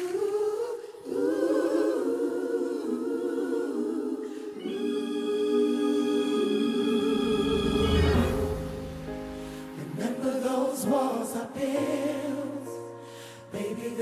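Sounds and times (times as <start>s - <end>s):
choir singing a cappella: 0.0s - 14.0s.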